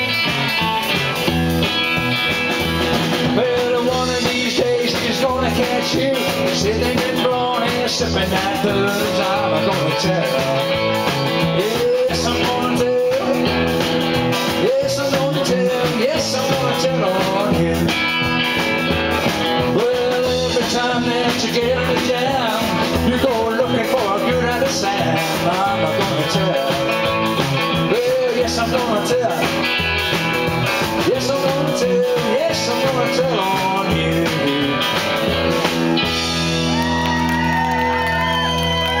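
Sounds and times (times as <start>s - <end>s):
rock and roll band playing: 0.0s - 39.0s.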